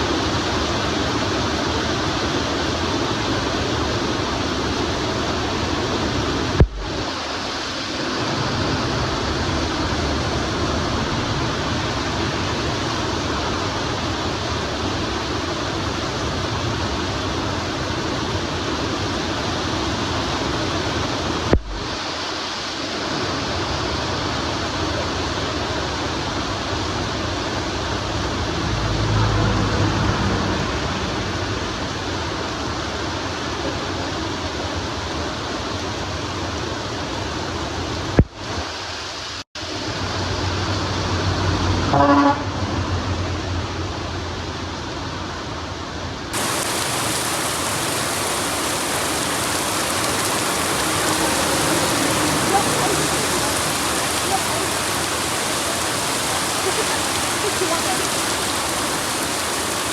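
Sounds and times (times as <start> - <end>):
steady rain pouring: 0.0 - 41.8, 45.4 - 59.9.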